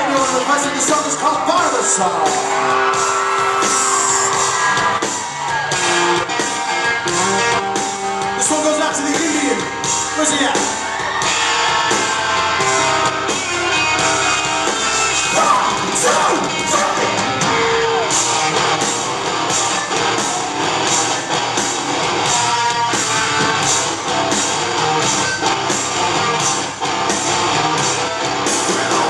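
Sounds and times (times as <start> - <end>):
drum kit beat: 0.0 - 29.0
electric guitars: 0.0 - 29.0.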